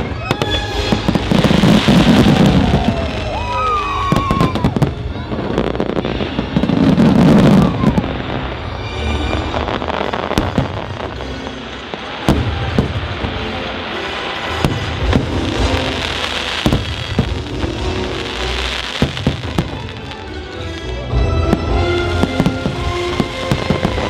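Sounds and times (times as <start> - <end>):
fireworks bursting with bangs: 0.0 - 24.0
music playing: 0.0 - 24.0.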